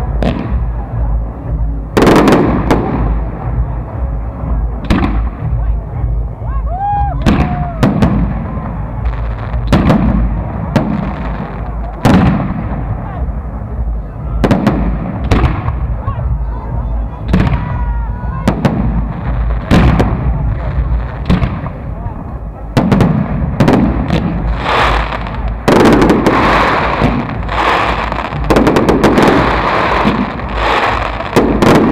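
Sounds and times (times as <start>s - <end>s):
fireworks banging: 0.0s - 6.4s, 7.1s - 31.9s
low rumble: 0.0s - 31.9s.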